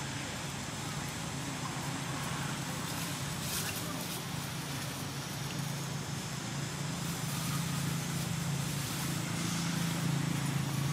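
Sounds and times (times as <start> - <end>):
background hiss: 0.0 - 10.9.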